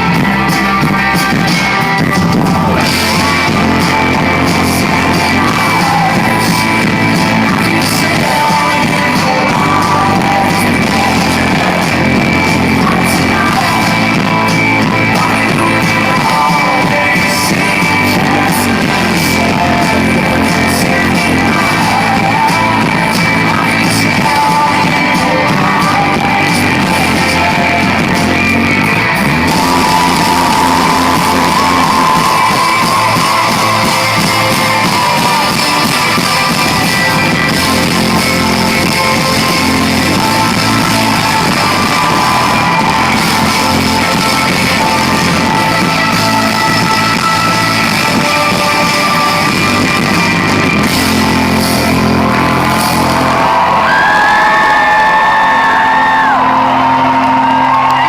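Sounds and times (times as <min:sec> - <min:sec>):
drums: 0:00.0 - 0:58.0
guitars: 0:00.0 - 0:58.0
live rock band playing: 0:00.0 - 0:58.0
person singing: 0:00.0 - 0:58.0.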